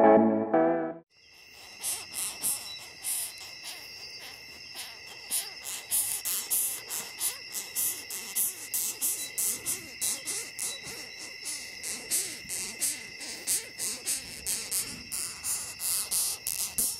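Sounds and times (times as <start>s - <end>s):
beetle squeaking: 1.6s - 16.9s.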